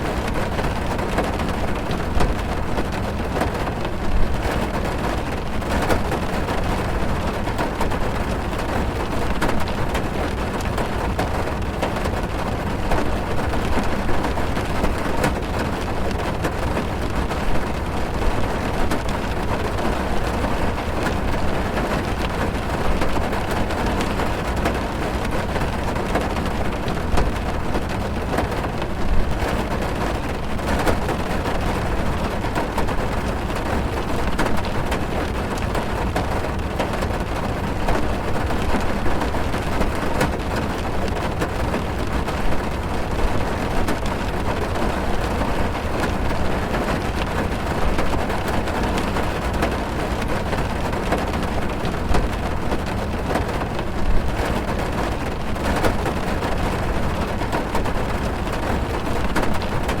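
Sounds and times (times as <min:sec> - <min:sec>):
heavy rain on car: 0:00.0 - 1:00.0.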